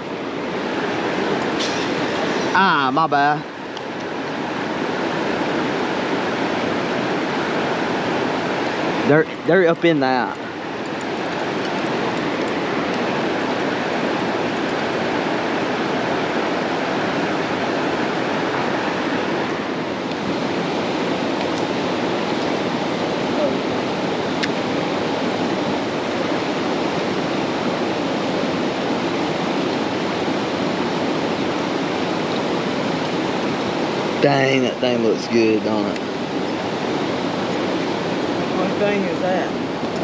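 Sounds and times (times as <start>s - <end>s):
creek water rushing over rapids: 0.0s - 40.0s.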